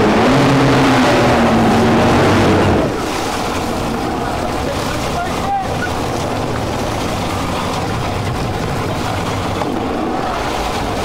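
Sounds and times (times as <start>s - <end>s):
outboard engine running: 0.0s - 11.0s
water splashing around hull: 0.0s - 11.0s.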